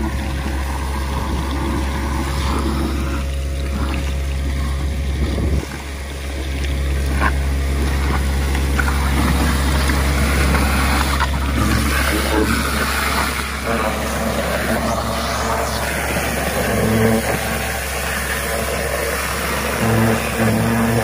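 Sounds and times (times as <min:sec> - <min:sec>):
engine and blower drone: 0:00.0 - 0:21.0
water jet and suction hiss: 0:00.0 - 0:21.0.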